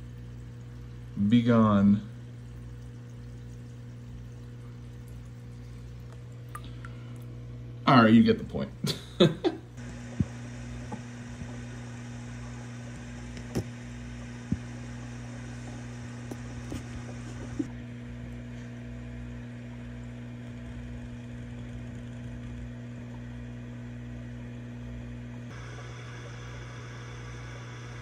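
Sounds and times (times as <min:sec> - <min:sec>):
sponge filter bubbling: 0:00.0 - 0:08.9, 0:09.7 - 0:24.3
aquarium air pump humming: 0:00.0 - 0:28.0.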